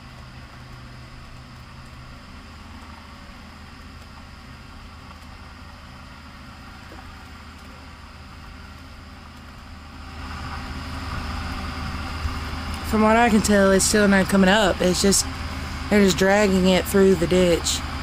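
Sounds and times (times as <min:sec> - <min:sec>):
heavy vehicle engines droning: 0:00.0 - 0:18.0.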